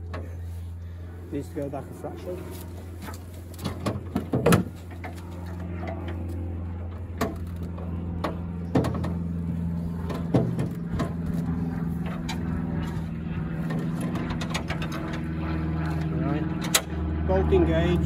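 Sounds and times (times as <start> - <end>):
motor hum: 0.0 - 18.0.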